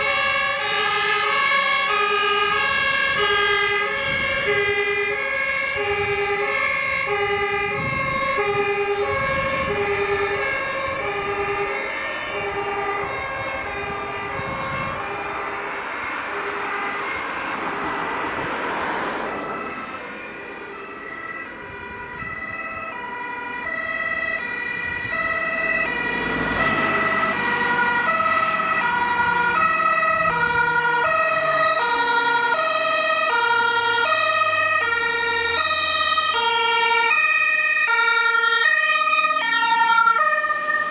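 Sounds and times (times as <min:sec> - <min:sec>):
fire engine engine: 0:00.0 - 0:40.9
two-tone emergency siren: 0:00.0 - 0:40.9
vehicles swishing past: 0:00.0 - 0:40.9.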